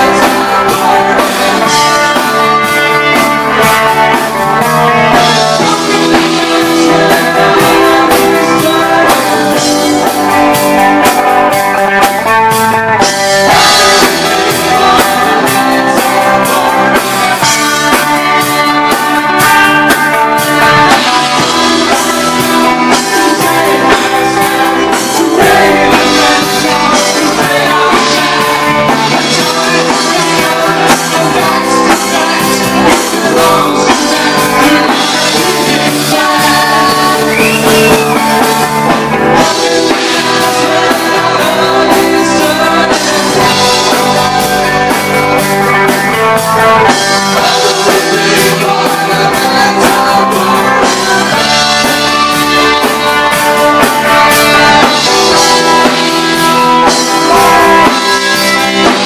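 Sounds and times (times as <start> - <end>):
bass guitar: 0.0 - 59.0
distorted electric guitar: 0.0 - 59.0
drum kit beat: 0.0 - 59.0.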